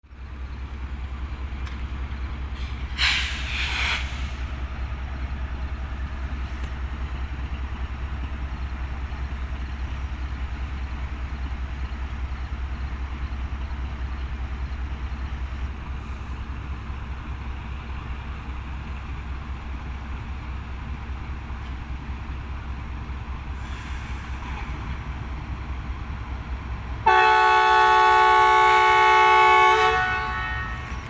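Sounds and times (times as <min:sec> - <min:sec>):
diesel locomotive engine throbbing: 0:00.1 - 0:31.0.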